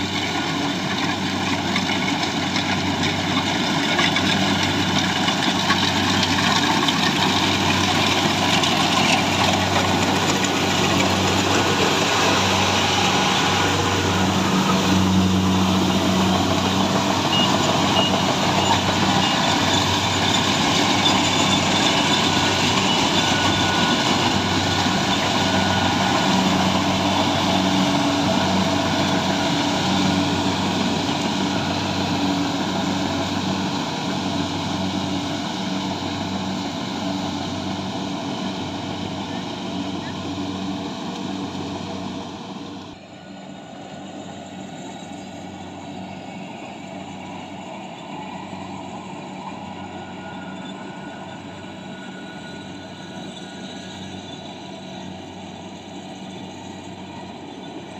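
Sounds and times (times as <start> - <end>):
combine harvester engine running: 0.0 - 57.9.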